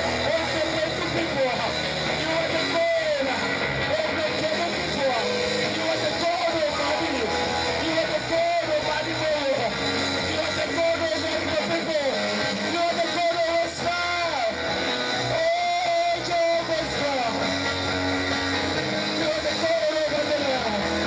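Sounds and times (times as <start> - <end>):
electric guitar music: 0.0 - 21.0.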